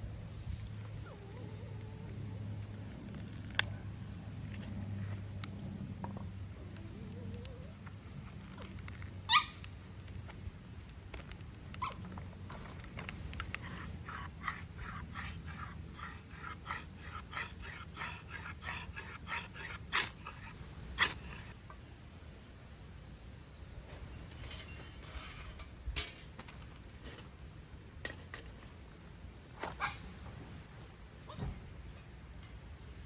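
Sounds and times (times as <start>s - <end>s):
steady low background hum: 0.0s - 33.0s.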